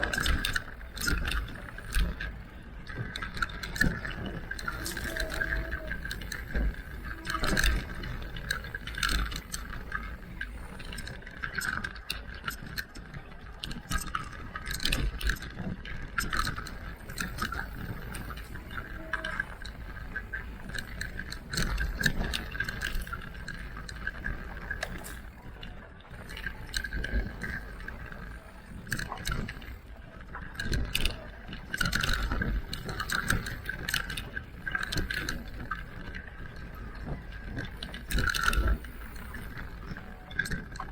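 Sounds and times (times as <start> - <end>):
bike chain and frame rattling: 0.0 - 40.9.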